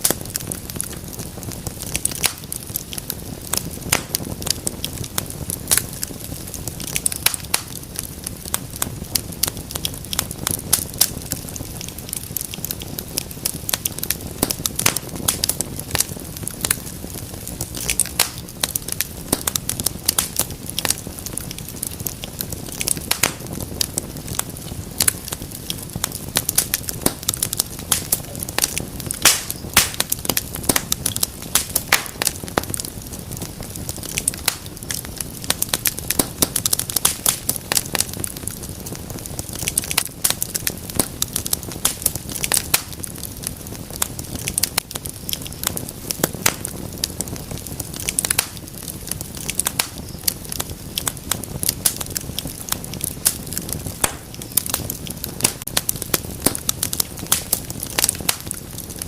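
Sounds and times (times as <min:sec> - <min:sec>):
fire hissing: 0:00.0 - 0:59.0
wood fire crackling and popping: 0:00.0 - 0:59.0.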